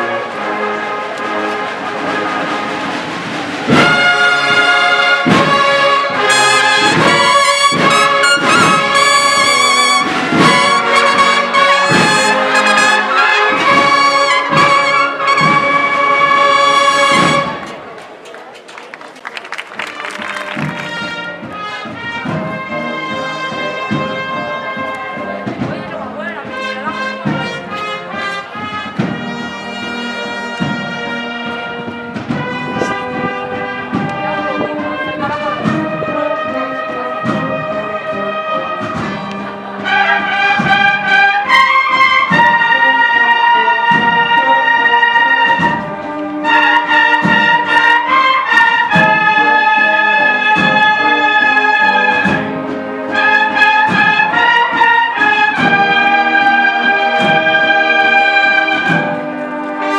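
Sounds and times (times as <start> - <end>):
brass band playing slow march: 0.0 - 59.9.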